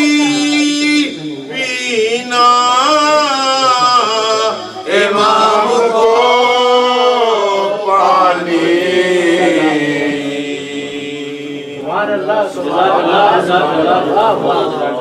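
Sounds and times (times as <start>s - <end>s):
man chanting in long notes: 0.0s - 12.3s.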